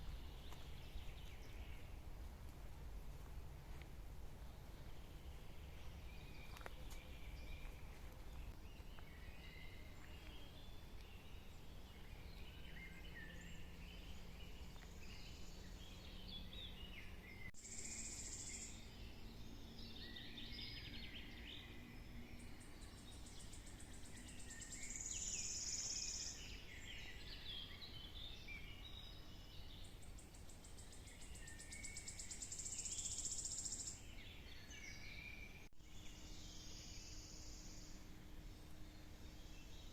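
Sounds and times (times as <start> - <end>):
faint low rumble: 0.0 - 32.4
birds chirping: 0.0 - 39.9.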